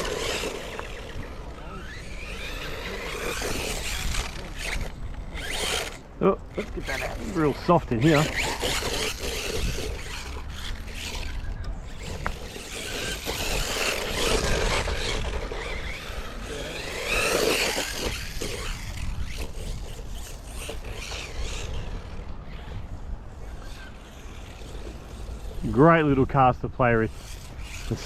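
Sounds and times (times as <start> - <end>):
toy truck tyres scraping dirt: 0.0 - 28.0.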